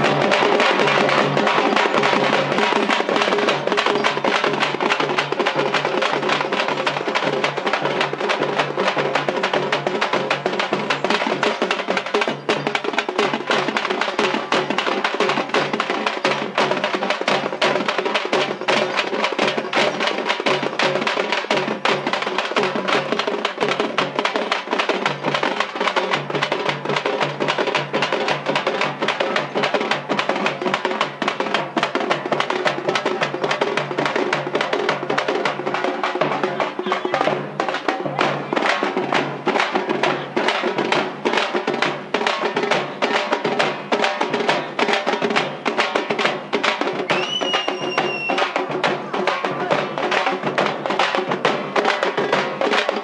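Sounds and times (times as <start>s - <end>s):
barrel drum: 0.0s - 53.0s
frame drums played with sticks: 0.0s - 53.0s.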